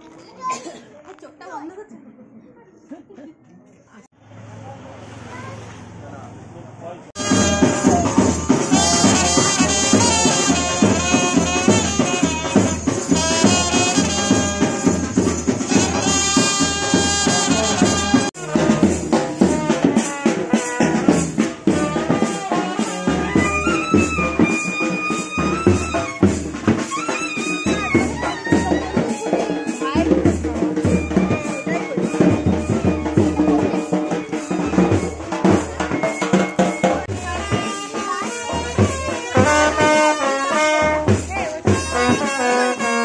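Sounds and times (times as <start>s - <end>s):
drum beat: 7.2s - 43.0s
hand cymbals: 7.2s - 43.0s
trumpet melody: 7.2s - 43.0s.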